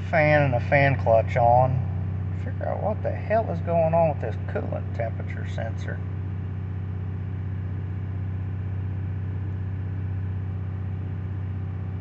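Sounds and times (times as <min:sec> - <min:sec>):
truck engine running steadily: 0:00.0 - 0:12.0.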